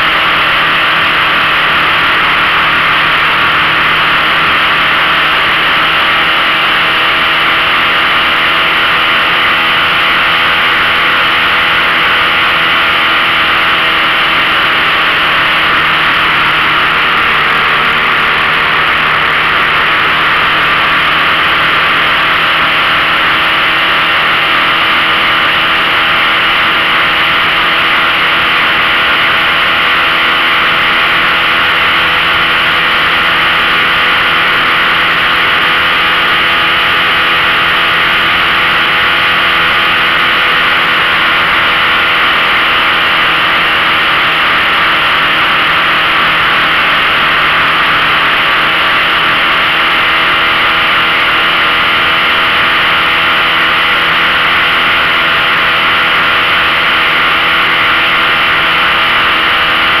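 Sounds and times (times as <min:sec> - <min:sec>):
outboard motor running: 0:00.0 - 1:00.0.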